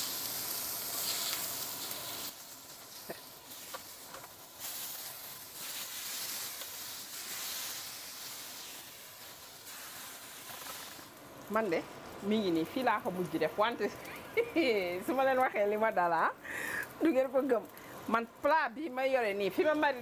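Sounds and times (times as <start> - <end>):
chicken sizzling in a pan: 0.0 - 18.2.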